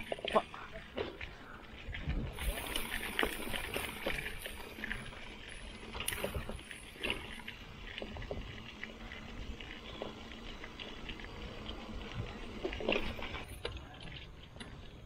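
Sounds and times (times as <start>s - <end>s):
bike clicks and rattles: 0.0s - 15.0s
bike tyres rolling on dirt: 0.0s - 15.0s.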